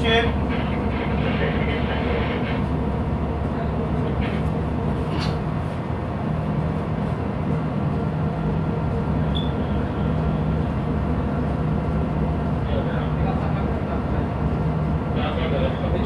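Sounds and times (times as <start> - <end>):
engine machinery drone: 0.0 - 16.0.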